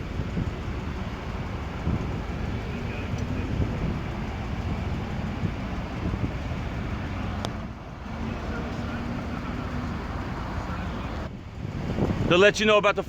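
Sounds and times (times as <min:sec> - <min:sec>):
passing vehicle rumble: 0:00.0 - 0:13.0.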